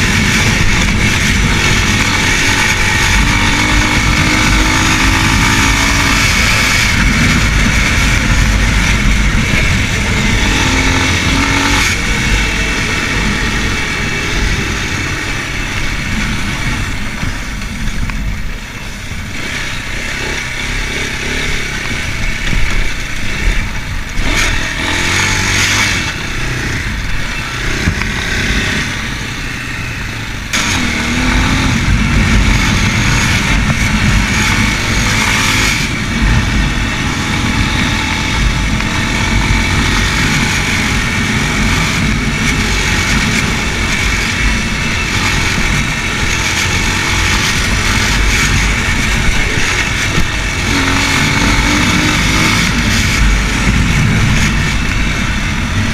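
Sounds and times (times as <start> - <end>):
motorcycle engine running: 0.0 - 55.9
road noise: 0.0 - 55.9
wind: 0.0 - 55.9.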